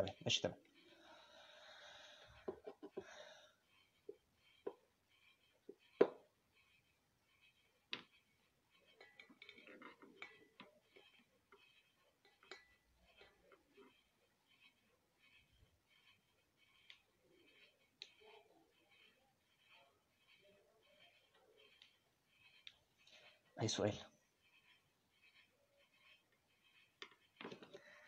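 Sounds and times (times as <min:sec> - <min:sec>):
faint clicks and knocks: 0:02.2 - 0:23.6, 0:24.4 - 0:28.0.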